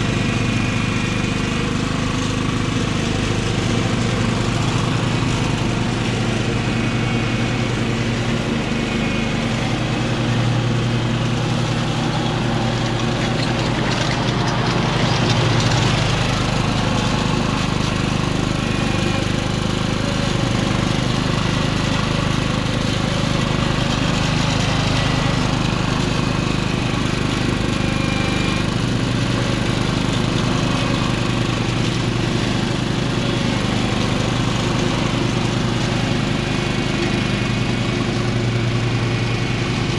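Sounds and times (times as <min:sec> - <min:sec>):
ride-on mower engine running: 0:00.0 - 0:39.9.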